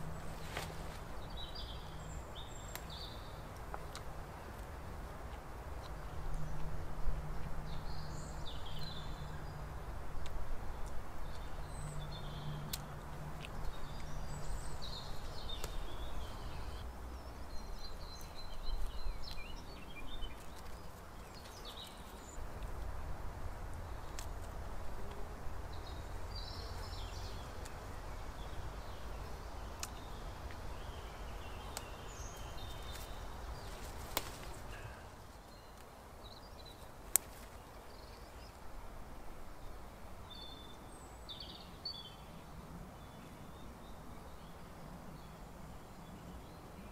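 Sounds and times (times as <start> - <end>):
small birds chirping: 0.0 - 39.0, 39.6 - 46.9.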